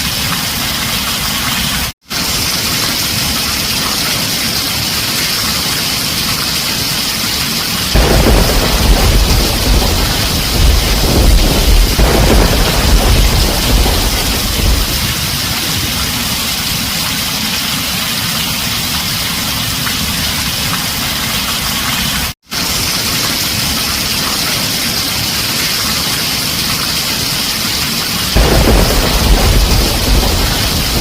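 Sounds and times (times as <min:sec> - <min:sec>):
heavy rain on a tin roof: 0:00.0 - 0:31.0.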